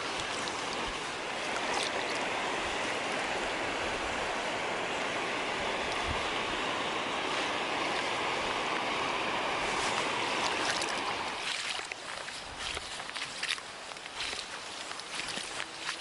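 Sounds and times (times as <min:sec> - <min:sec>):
water rushing over rocks: 0:00.0 - 0:05.0, 0:07.5 - 0:16.0.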